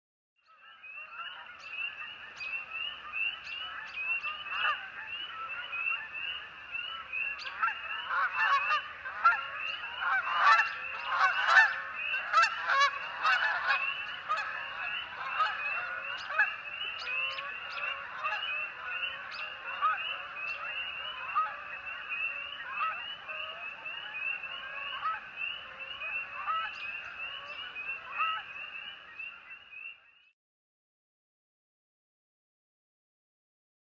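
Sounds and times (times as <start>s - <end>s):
geese honking: 1.0s - 29.4s.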